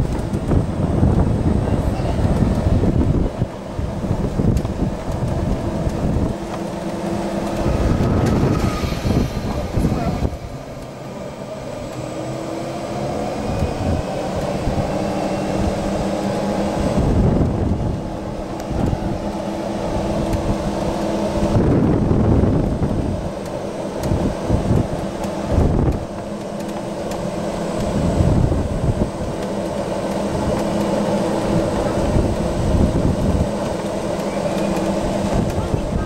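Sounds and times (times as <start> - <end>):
golf cart rolling rumble: 0.0 - 36.0
wind buffeting the microphone: 0.0 - 36.0.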